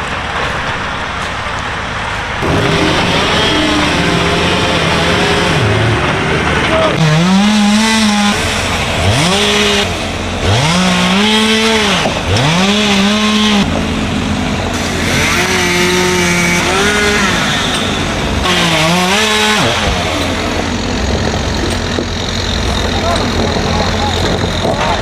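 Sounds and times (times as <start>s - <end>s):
chainsaw engine revving: 2.4s - 25.0s.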